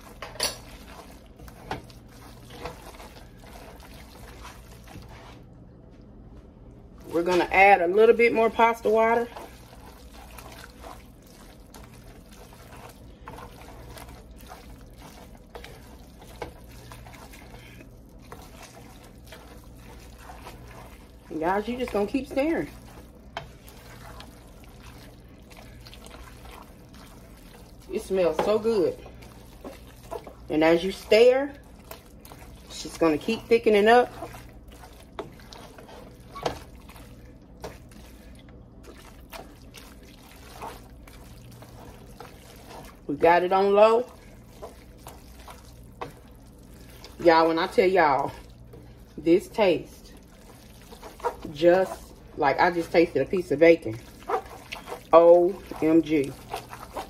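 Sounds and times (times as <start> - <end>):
pasta stirred in skillet: 0.0 - 5.6, 6.9 - 57.0
low steady hum: 0.0 - 57.0
wet noodles sloshing: 0.0 - 57.0.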